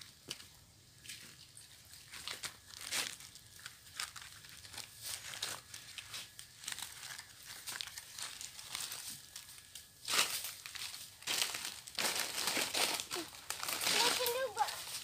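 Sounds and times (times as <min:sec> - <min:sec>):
dry leaves rustling underfoot: 0:00.0 - 0:15.0.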